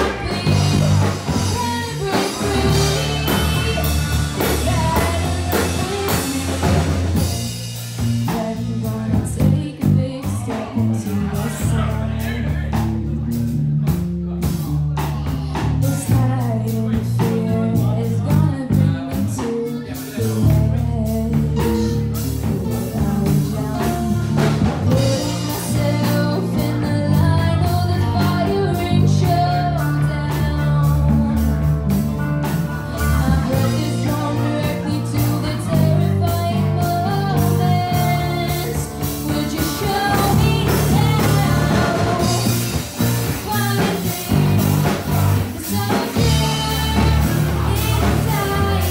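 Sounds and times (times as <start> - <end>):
person singing: 0.0 - 12.9, 15.0 - 48.9
drum kit: 0.0 - 48.9
electric bass: 0.0 - 48.9
electric guitar: 0.0 - 48.9.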